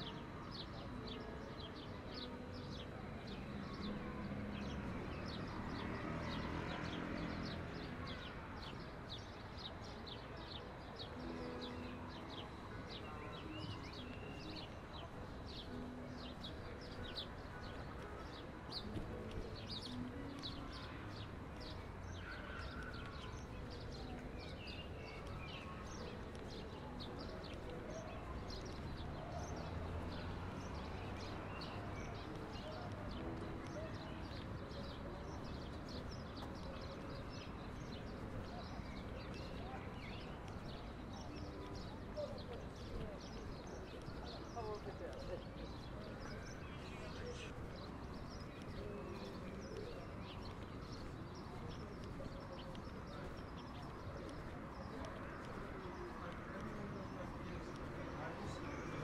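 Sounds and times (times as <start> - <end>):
low city rumble: 0.0 - 59.0
small birds chirping: 0.1 - 59.0.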